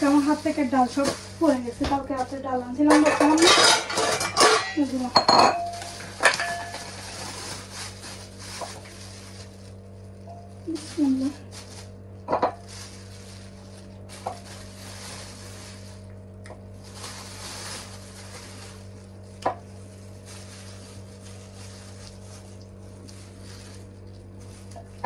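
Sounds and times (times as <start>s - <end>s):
plastic bag crinkling: 0.0s - 25.0s
steady electrical hum: 0.0s - 25.0s.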